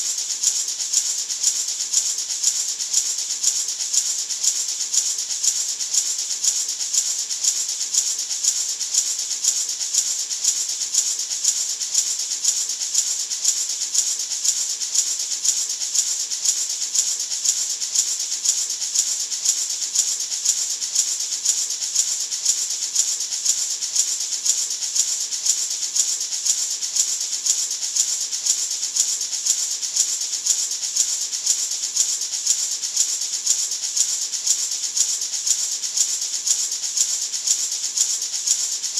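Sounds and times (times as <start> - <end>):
gourd maraca rattling: 0.0 - 38.9.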